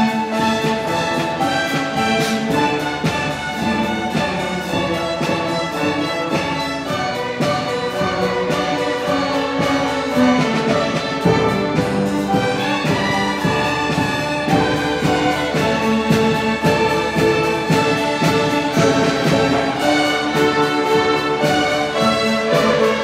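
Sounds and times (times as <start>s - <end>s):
string orchestra playing: 0.0s - 23.0s.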